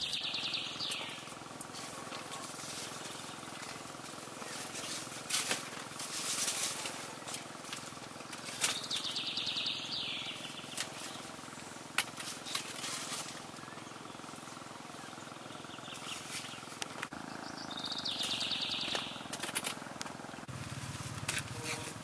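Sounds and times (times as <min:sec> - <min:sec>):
falling fluttering call: 0:00.0 - 0:11.7, 0:12.3 - 0:20.5
steady outdoor hiss: 0:00.0 - 0:22.0.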